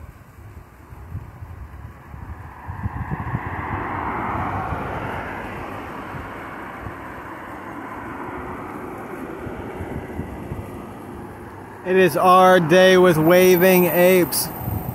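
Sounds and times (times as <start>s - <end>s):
car passing: 0.2s - 14.9s.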